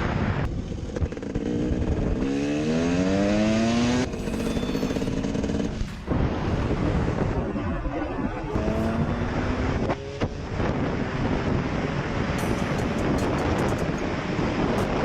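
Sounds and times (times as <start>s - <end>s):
wind buffeting microphone: 0.0s - 2.8s, 3.8s - 15.0s
engine running: 0.1s - 15.0s.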